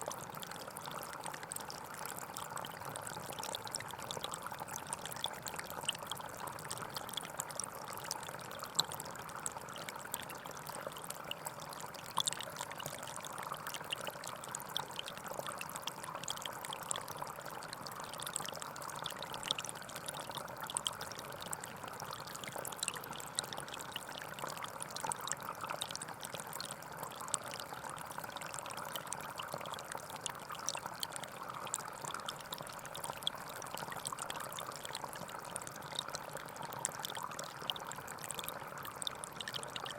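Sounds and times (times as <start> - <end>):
stream flowing and trickling: 0.0 - 39.9
water splashes and drips: 0.0 - 39.9.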